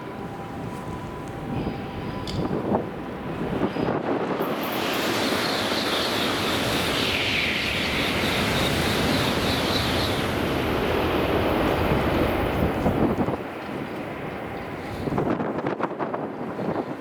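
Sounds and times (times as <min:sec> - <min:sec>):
train rushing past: 0:00.0 - 0:17.0.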